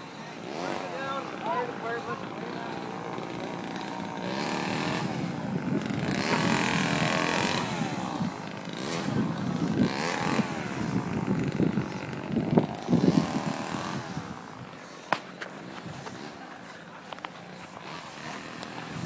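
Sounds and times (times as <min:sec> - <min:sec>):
engine running and revving: 0:00.0 - 0:19.0.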